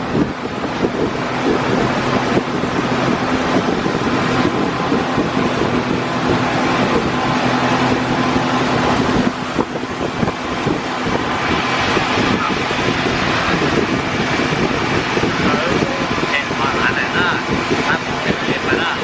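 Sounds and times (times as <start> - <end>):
motorboat engine running: 0.0 - 19.0
rushing water: 0.0 - 19.0
wind on microphone: 0.0 - 19.0.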